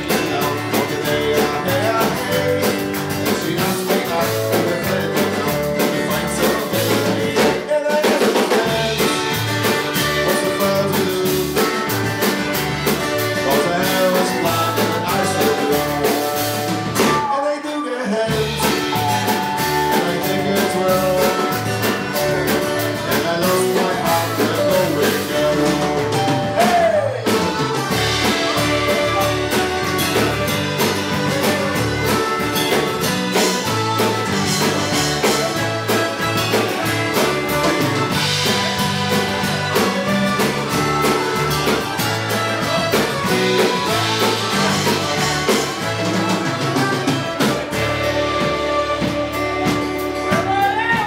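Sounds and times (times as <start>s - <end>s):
drum kit beat: 0.0s - 17.5s, 18.1s - 51.0s
folk-rock band playing: 0.0s - 51.0s
flute lead: 8.8s - 51.0s.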